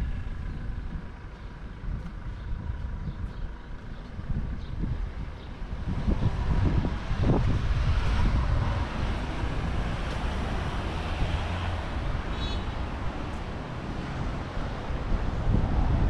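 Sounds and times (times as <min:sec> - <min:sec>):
outdoor rush of noise: 0:00.0 - 0:16.0
wind buffeting microphone: 0:00.0 - 0:16.0.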